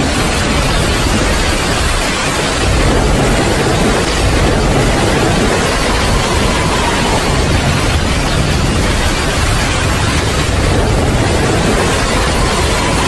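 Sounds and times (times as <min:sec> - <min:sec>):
heavy rain falling: 0:00.0 - 0:13.0
low rumble: 0:00.0 - 0:13.0.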